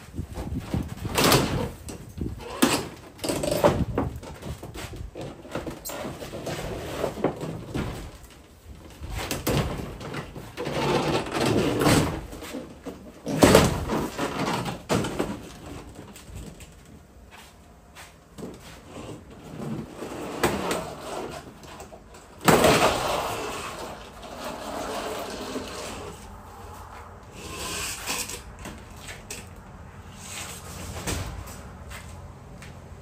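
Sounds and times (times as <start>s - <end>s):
siding knocks and scrapes: 0.0s - 32.2s.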